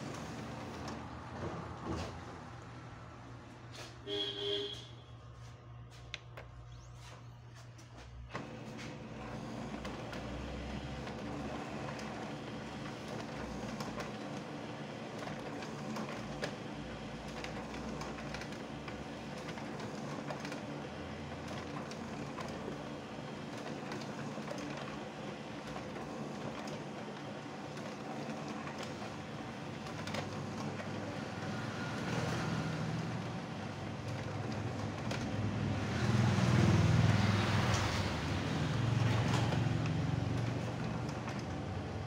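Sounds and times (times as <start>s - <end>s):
laser printer printing: 0.0s - 2.4s, 8.3s - 42.0s.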